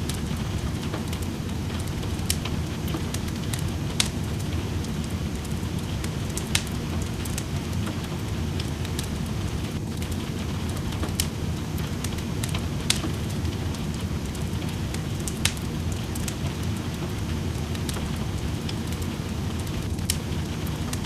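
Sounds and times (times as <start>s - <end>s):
rain hiss: 0.0s - 21.0s
wood fire crackling: 0.0s - 21.0s.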